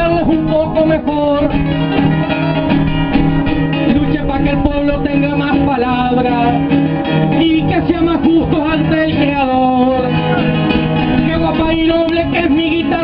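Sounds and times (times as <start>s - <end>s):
folk music on strummed acoustic guitars: 0.0s - 13.0s.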